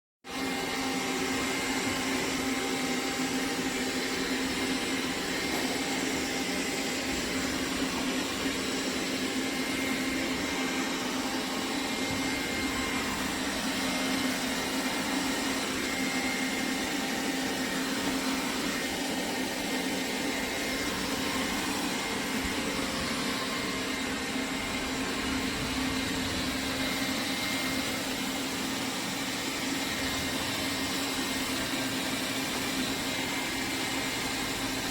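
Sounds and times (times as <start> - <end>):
robot vacuum motor hum: 0.3 - 34.9.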